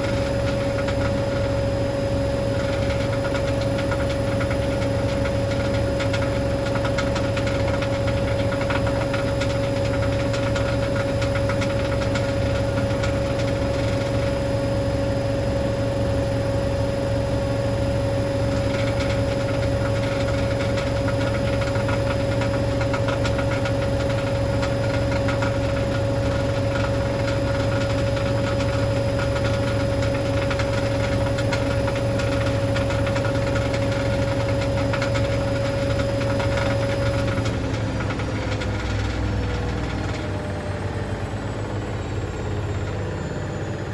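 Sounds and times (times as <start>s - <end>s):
washing machine spinning: 0.0s - 43.9s.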